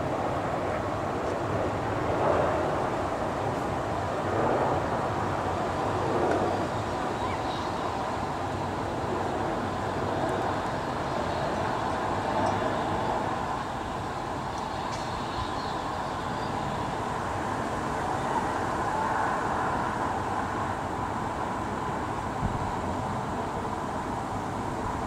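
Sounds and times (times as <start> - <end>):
jet airliner passing overhead: 0.0 - 25.0.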